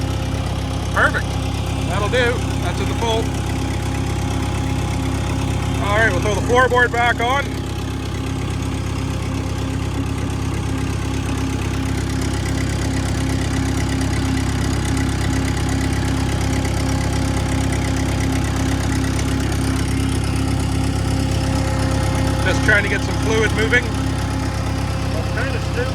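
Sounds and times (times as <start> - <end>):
loader engine idling: 0.0 - 25.9.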